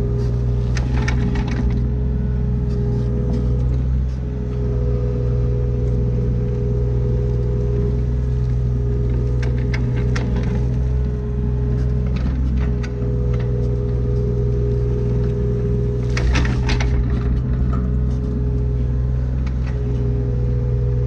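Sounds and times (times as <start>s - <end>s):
diesel excavator engine running: 0.0s - 21.0s.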